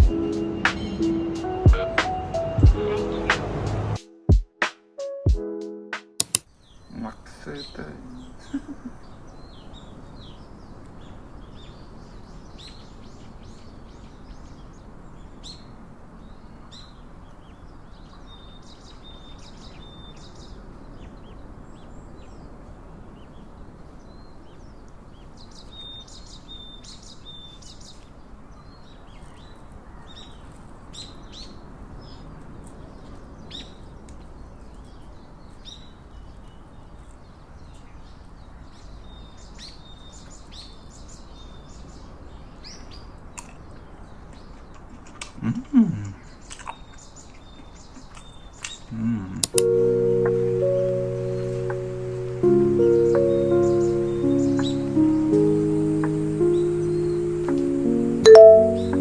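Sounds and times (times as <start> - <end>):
birds chirping: 0.0 - 4.0, 6.5 - 22.5, 28.8 - 59.0
low background noise: 6.2 - 59.0.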